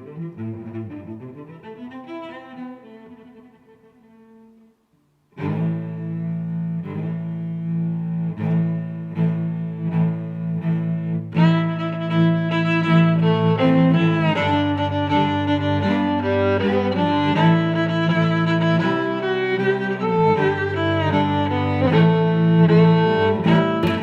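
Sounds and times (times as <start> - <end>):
bowed strings music: 0.0 - 24.0.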